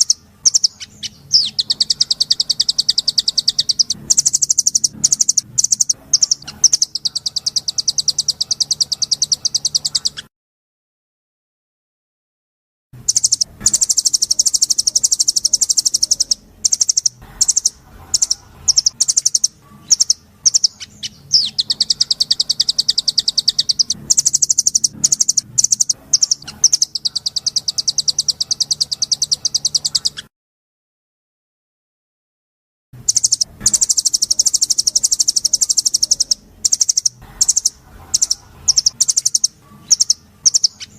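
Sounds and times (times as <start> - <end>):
bird single chirps: 0.0 - 10.3, 13.1 - 30.3, 33.1 - 40.9
songbird trilling: 0.0 - 10.3, 13.0 - 30.3, 33.0 - 40.9.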